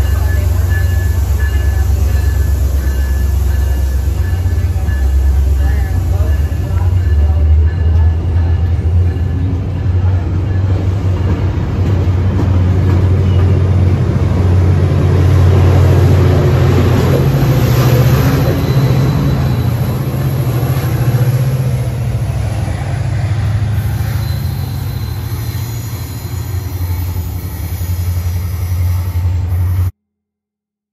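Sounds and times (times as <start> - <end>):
train coaches rolling past: 0.0 - 29.9
diesel locomotive engine drone: 0.0 - 30.0.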